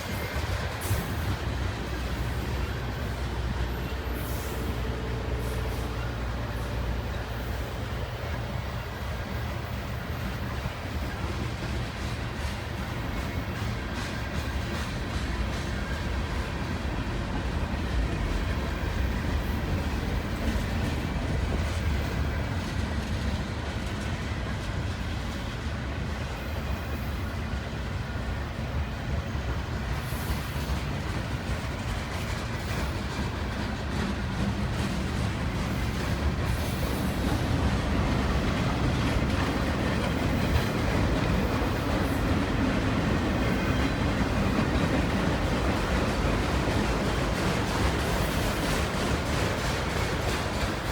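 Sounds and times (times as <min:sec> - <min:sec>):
freight train wheels rumbling: 0:00.0 - 0:50.9.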